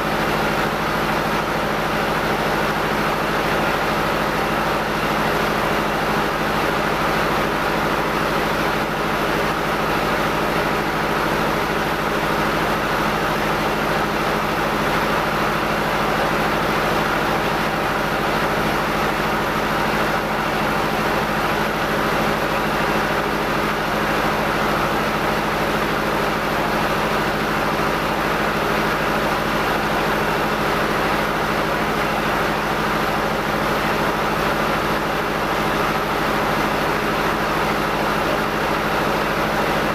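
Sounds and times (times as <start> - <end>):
rice mill machinery drone: 0.0 - 39.9.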